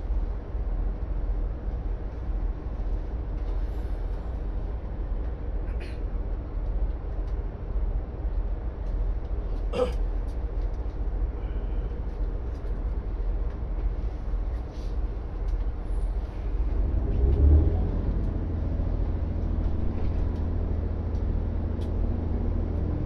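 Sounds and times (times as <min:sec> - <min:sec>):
diesel railcar rumbling: 0:00.0 - 0:23.0.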